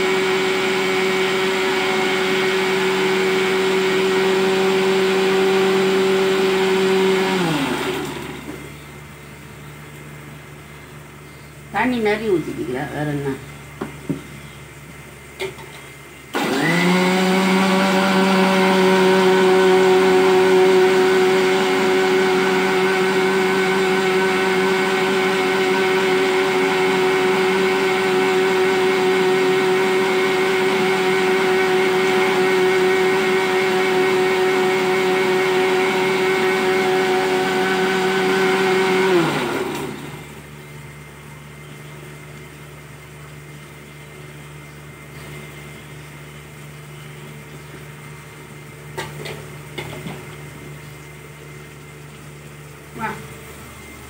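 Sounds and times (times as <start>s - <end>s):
mixer grinder motor: 0.0s - 9.0s, 15.3s - 54.0s.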